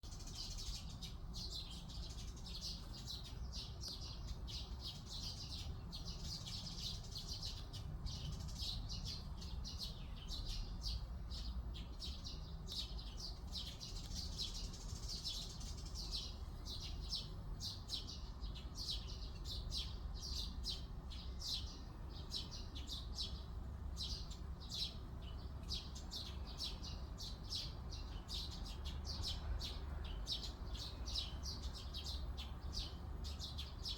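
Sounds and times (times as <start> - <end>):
forest birds chirping: 0.0 - 33.9.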